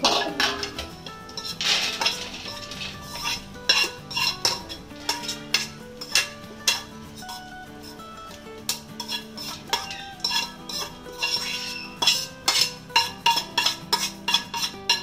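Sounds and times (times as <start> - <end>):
spatula scraping and tapping pan: 0.0 - 15.0.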